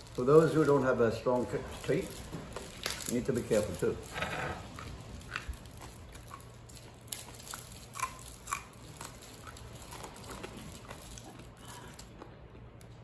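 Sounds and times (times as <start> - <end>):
chewing and crunching fried fish: 0.0 - 13.0.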